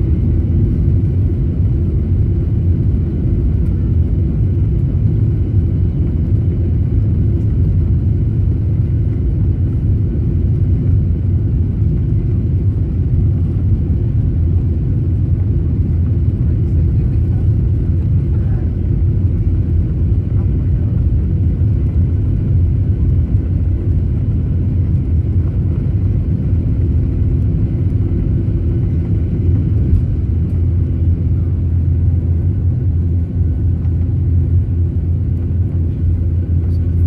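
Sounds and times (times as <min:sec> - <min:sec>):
jet engines rumbling from cabin: 0:00.0 - 0:37.0.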